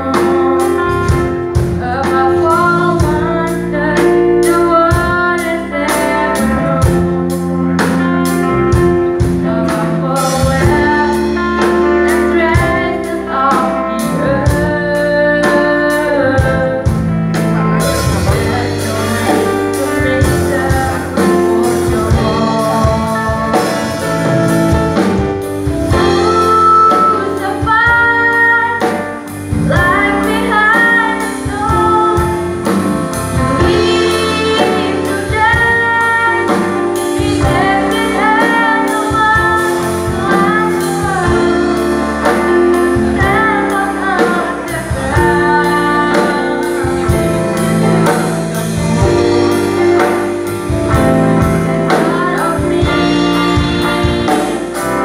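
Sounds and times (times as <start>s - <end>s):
girl singing worship song: 0.0s - 7.4s, 9.7s - 17.0s, 17.9s - 24.2s, 25.9s - 47.4s, 51.4s - 54.7s
live band accompaniment: 0.0s - 55.0s.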